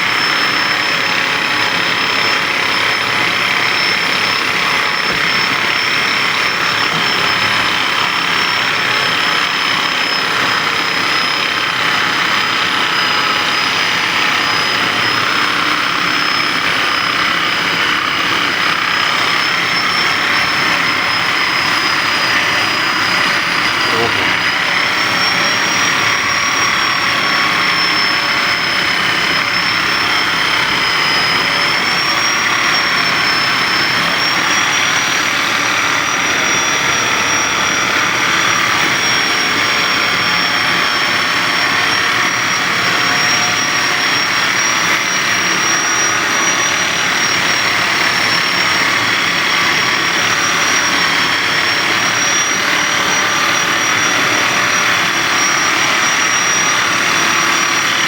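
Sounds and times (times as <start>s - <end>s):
small electric motor whirring: 0.0s - 58.0s.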